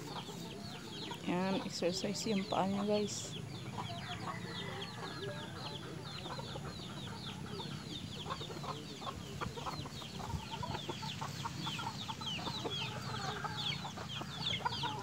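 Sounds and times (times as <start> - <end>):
chickens clucking: 0.0 - 15.0
chicks peeping: 0.0 - 15.0.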